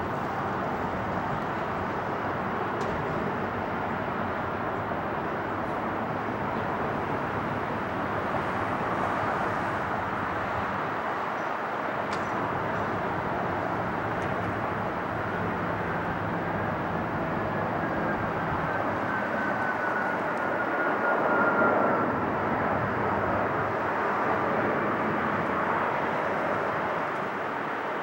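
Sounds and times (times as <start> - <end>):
engine whine: 0.0 - 28.0
jet engines rushing: 0.0 - 28.0.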